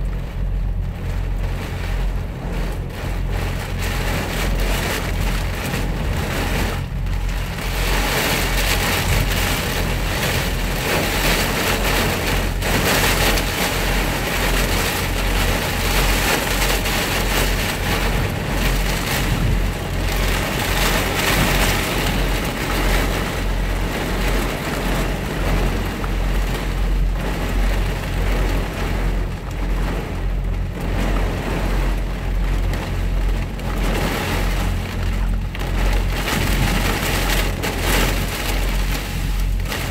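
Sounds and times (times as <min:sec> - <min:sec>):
heavy rain on a truck cab: 0:00.0 - 0:39.9
steady low hum: 0:00.0 - 0:39.9.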